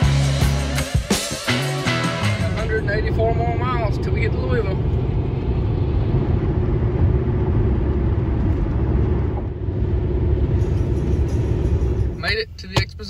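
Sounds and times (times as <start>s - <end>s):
vehicle road and engine rumble: 1.8s - 13.0s.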